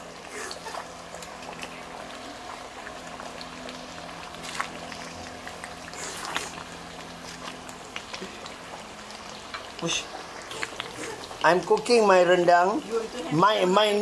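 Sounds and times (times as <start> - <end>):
steady low hum: 0.0 - 11.9
thick gravy bubbling in a wok: 0.0 - 14.0.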